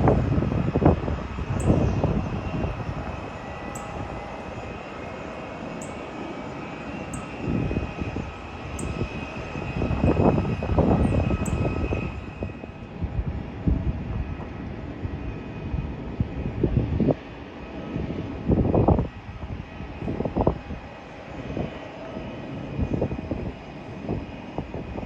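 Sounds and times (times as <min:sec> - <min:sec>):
jet engines whining: 0:00.0 - 0:25.0
wind gusting on microphone: 0:00.0 - 0:25.0.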